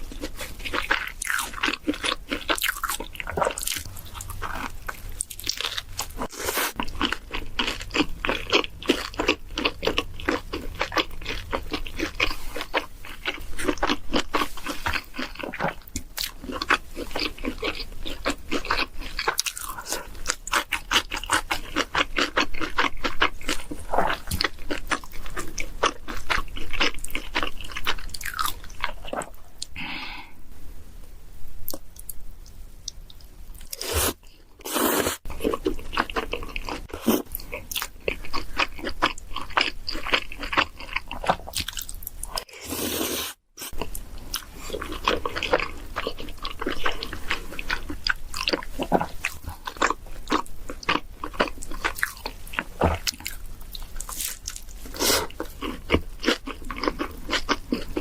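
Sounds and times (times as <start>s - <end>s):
person chewing and crunching food: 0.0s - 29.8s, 31.7s - 58.0s.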